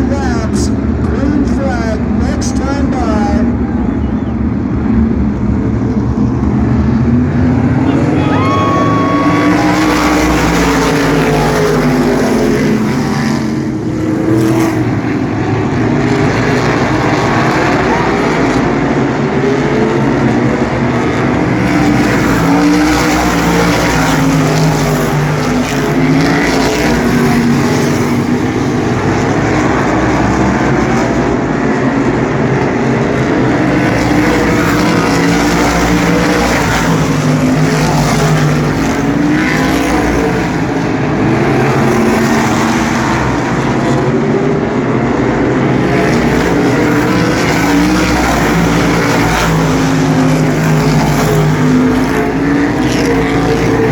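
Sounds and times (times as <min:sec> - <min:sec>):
race car engines passing: 0:00.0 - 0:53.9.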